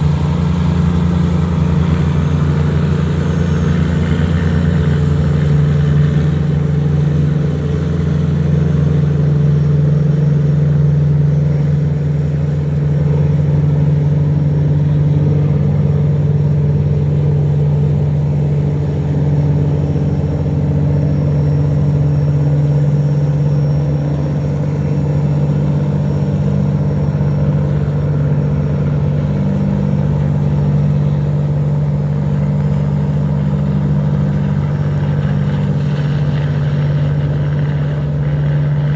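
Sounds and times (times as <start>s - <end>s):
boat engines droning: 0.0s - 38.9s.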